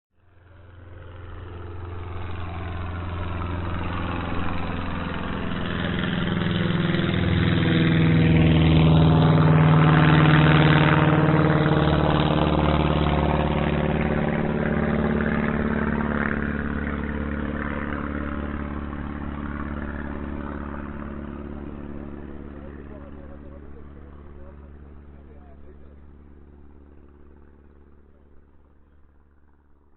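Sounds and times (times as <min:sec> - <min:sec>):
airplane flying overhead: 0:00.2 - 0:29.9.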